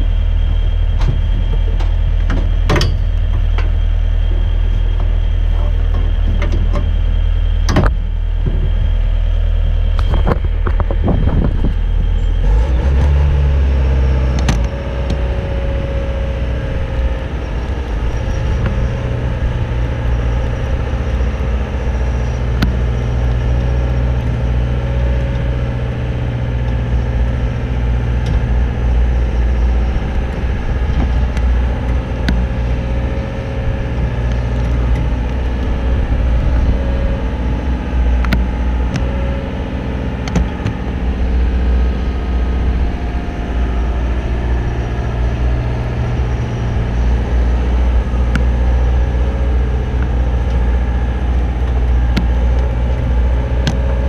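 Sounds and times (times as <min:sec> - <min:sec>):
boom lift engine droning: 0:00.0 - 0:54.0
steady hum: 0:00.0 - 0:54.0.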